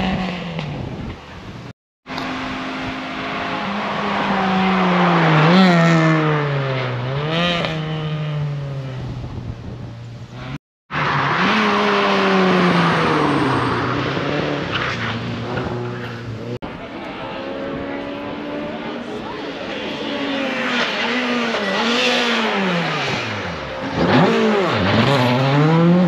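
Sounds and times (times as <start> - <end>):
rally car engine passing: 2.2 - 8.9, 10.4 - 26.0.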